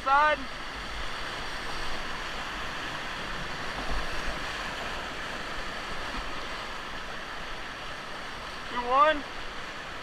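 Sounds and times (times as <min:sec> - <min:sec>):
whitewater rushing: 0:00.0 - 0:10.0.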